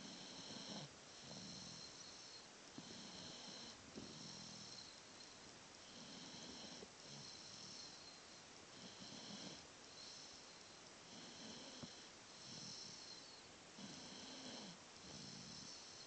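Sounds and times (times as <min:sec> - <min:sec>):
faint snoring: 0:00.0 - 0:16.0.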